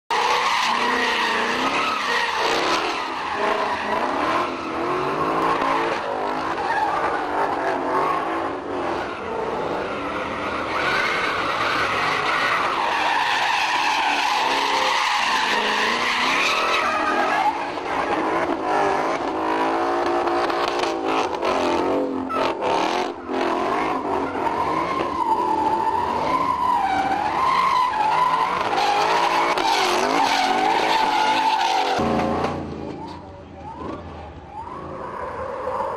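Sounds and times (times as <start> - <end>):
car engines revving: 0.1 - 35.9
tyres squealing and skidding: 0.1 - 35.9.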